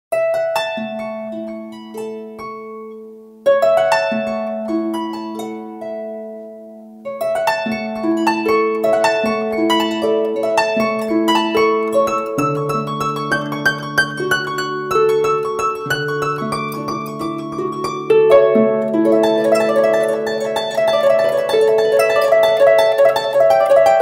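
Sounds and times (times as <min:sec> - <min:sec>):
harp playing: 0:00.1 - 0:24.0.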